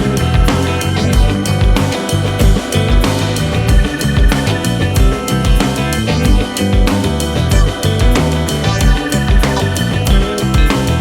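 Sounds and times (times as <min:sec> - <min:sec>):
rock music with drums: 0:00.0 - 0:11.0.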